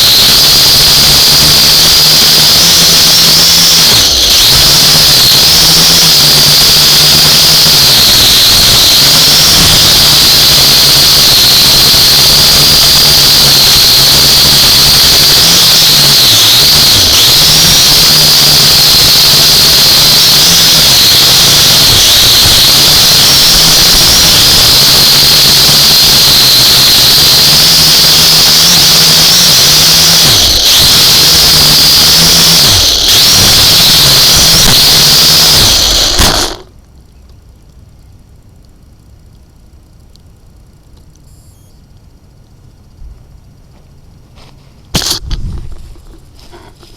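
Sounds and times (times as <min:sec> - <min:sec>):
drone propellers whining: 0:00.0 - 0:36.7, 0:44.9 - 0:46.9.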